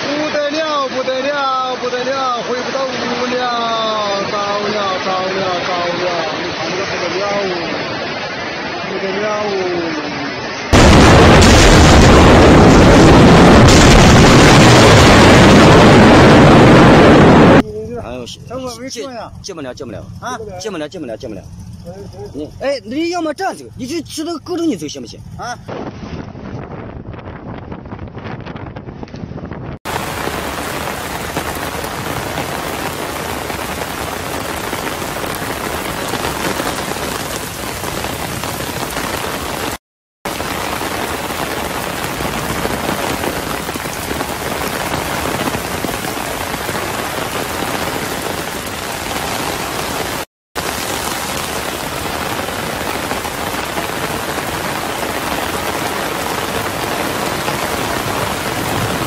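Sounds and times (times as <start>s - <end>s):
heavy rain on water and foliage: 0.0s - 25.6s, 29.9s - 59.0s.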